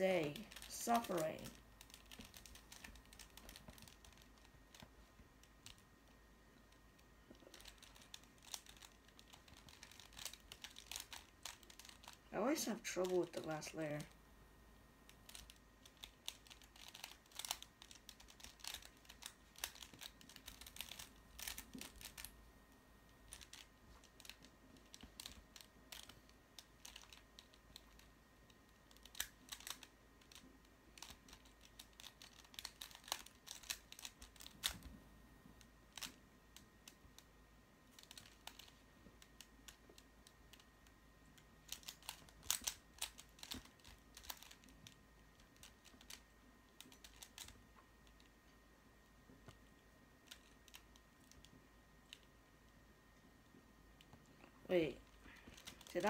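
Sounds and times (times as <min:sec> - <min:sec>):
puzzle plastic layers clicking: 0:00.0 - 0:14.2, 0:15.1 - 0:22.4, 0:23.1 - 0:34.9, 0:35.5 - 0:48.4, 0:50.2 - 0:52.3, 0:54.0 - 0:56.0.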